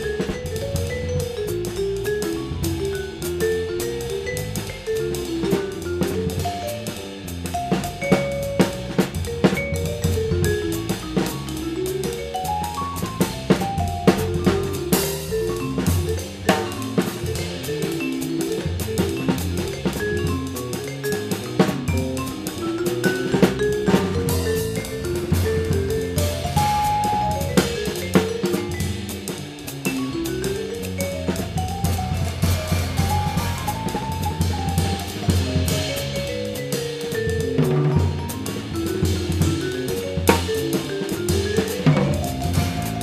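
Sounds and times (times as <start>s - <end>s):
drum strokes: 0.0s - 43.0s
vibraphone mallet notes: 0.0s - 43.0s.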